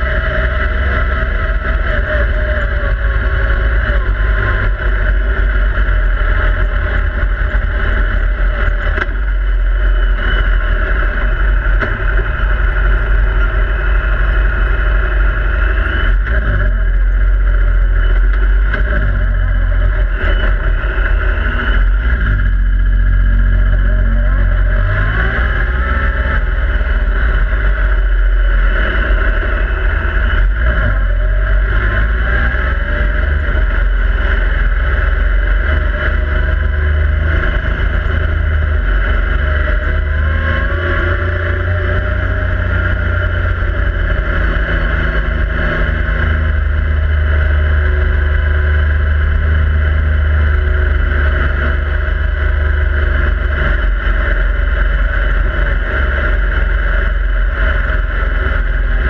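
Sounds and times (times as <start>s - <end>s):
engine revs rising and falling: 0.0s - 59.0s.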